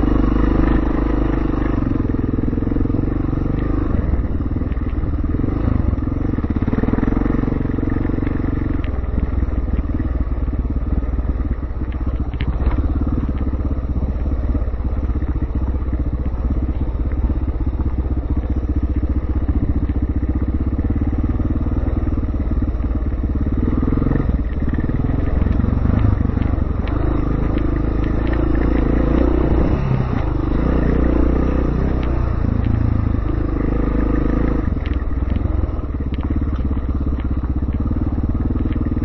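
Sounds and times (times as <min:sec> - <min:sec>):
dirt bike engine running: 0:00.0 - 0:39.0.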